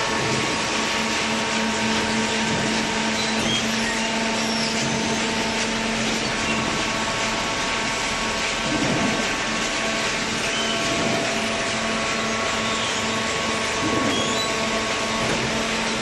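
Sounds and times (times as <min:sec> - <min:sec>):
baler mechanical hum and hiss: 0:00.0 - 0:16.0.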